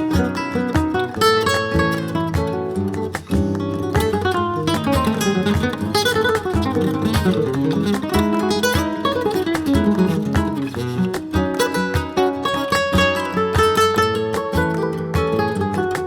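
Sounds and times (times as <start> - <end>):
acoustic guitar plucked and strummed: 0.0 - 16.0.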